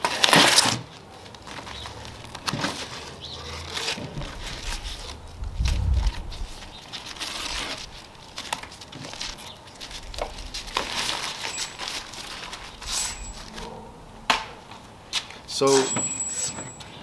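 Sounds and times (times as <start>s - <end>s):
tape crinkling and tearing: 0.0s - 13.7s.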